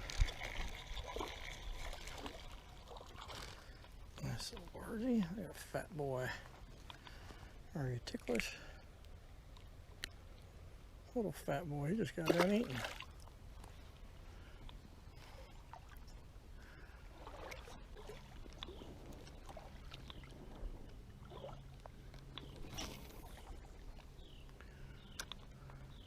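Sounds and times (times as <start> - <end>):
creek water sloshing: 0.0 - 7.7, 11.5 - 26.0.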